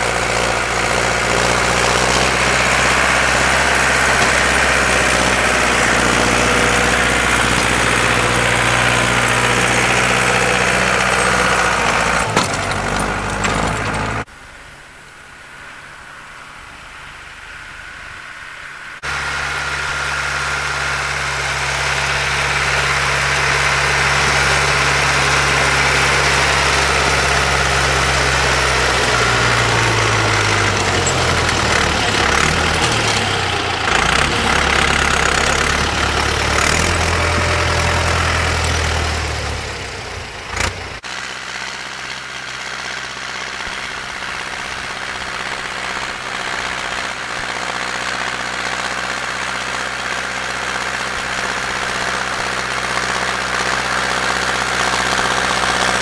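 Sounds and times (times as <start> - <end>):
tractor engine running: 0.0 - 14.5, 18.9 - 56.0.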